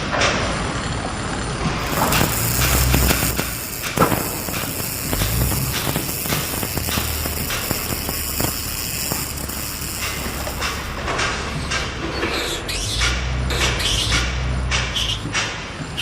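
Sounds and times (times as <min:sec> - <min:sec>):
steady low background hum: 0:00.9 - 0:15.8
sharp knocks and clatters: 0:01.6 - 0:16.0.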